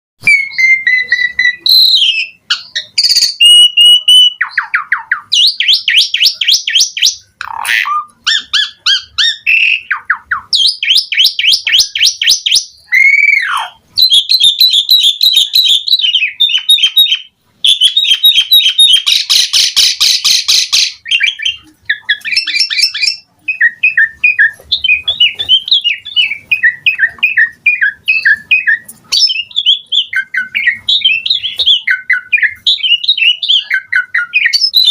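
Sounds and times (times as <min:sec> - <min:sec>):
starling singing: 0:00.2 - 0:34.9.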